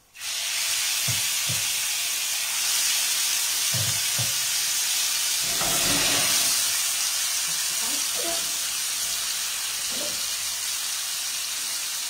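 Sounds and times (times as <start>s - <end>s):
eggplant sizzling in hot oil: 0.0s - 12.0s.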